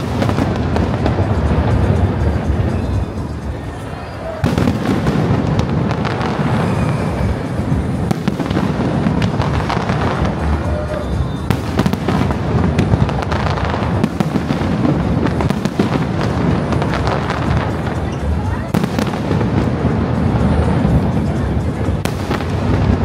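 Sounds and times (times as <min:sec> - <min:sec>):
fireworks bursts rumbling: 0:00.0 - 0:23.0
fireworks cracking: 0:00.0 - 0:23.0.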